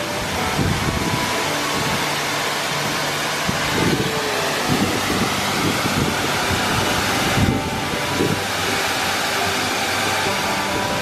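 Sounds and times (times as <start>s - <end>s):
waterfall rushing onto rocks: 0.0s - 11.0s.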